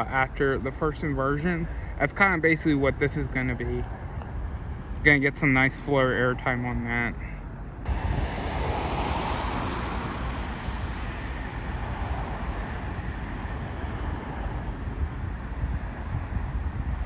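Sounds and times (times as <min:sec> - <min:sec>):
road traffic passing: 0:00.0 - 0:17.0
wind rumbling on microphone: 0:00.0 - 0:17.0.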